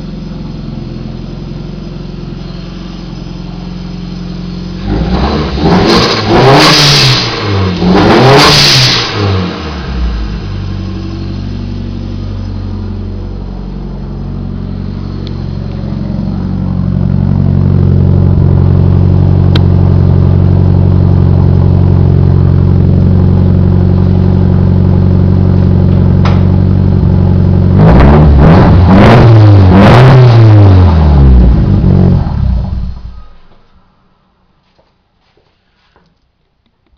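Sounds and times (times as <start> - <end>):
turbocharged car engine revving: 0.0 - 33.2.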